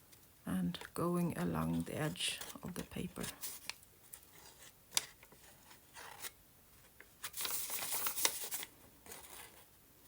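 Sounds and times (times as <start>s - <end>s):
paper scraping and rustling: 1.6s - 9.7s.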